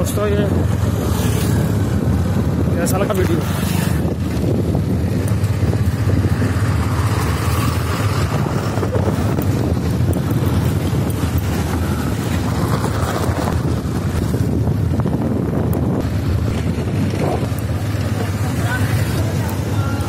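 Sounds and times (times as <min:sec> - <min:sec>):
motorbike engine running: 0:00.0 - 0:20.0
wind buffeting microphone: 0:00.0 - 0:20.0.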